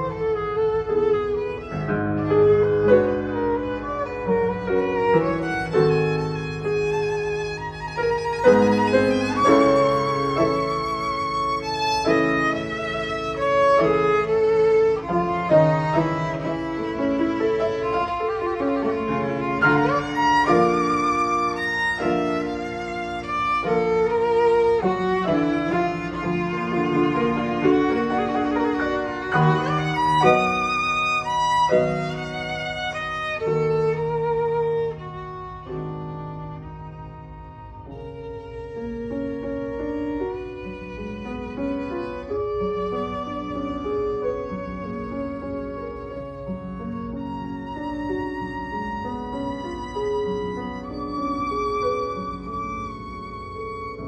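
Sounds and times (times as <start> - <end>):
solo violin melody: 0.0 - 54.0.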